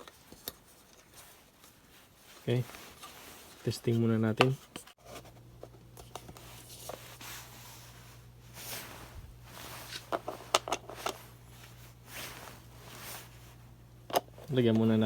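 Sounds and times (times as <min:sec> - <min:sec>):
steady low hum: 0:01.3 - 0:15.0.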